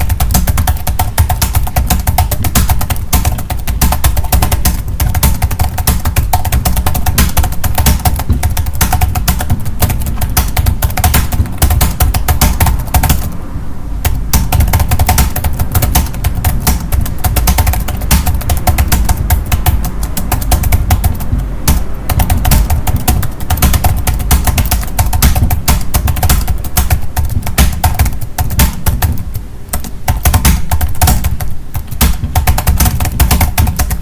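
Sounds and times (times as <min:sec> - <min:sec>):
fast typing on keyboard: 0:00.0 - 0:13.4, 0:14.0 - 0:34.0
low steady rumble: 0:00.0 - 0:34.0.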